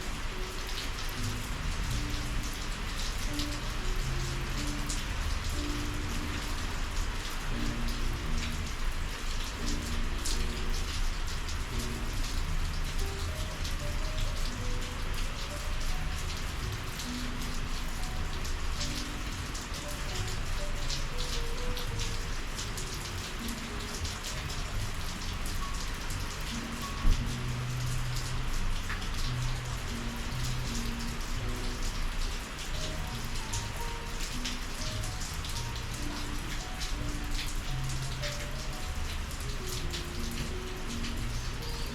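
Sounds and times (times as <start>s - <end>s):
sharp raindrops striking close: 0.0s - 41.9s
steady rain: 0.0s - 41.9s.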